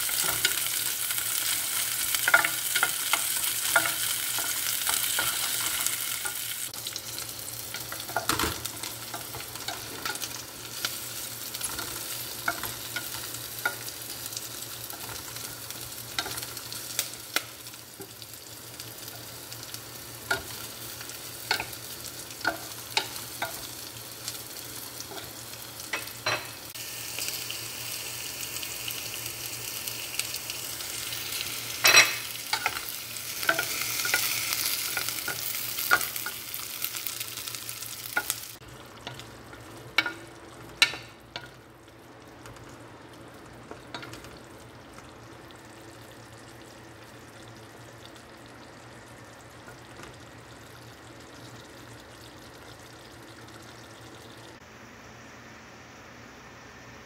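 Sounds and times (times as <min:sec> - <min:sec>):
fish sizzling in hot oil: 0:00.0 - 0:54.6.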